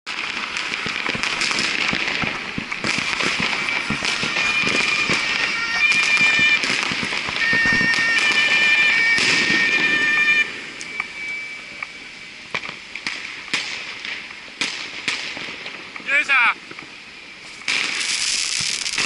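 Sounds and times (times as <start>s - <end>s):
firecrackers crackling and popping: 0.0s - 19.0s
whistling fireworks: 0.1s - 19.0s.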